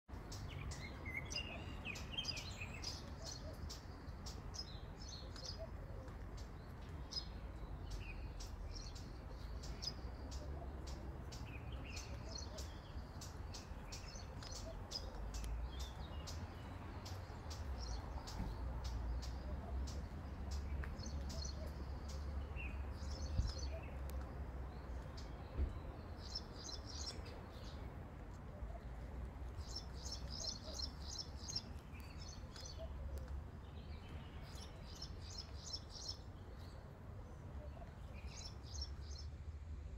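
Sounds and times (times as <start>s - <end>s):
small birds chirping: 0.1s - 39.6s.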